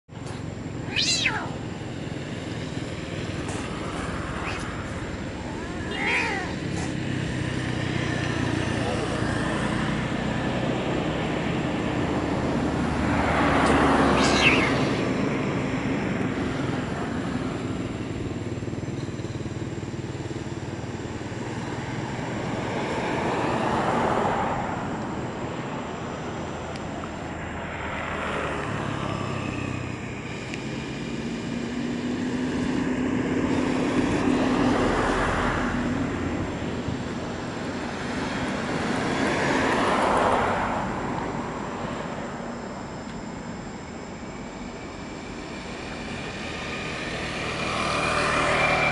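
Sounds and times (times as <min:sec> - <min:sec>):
vehicles passing on road: 0:00.1 - 0:48.9.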